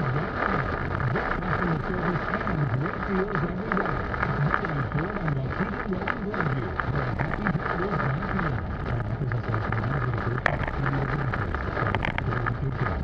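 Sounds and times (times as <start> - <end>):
heavy rain on car windshield: 0.0 - 13.0
sharp crack: 0.0 - 13.0.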